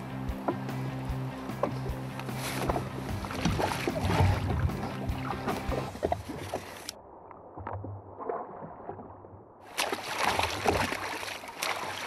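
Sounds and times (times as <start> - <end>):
water sloshing against hull: 0.0 - 12.0.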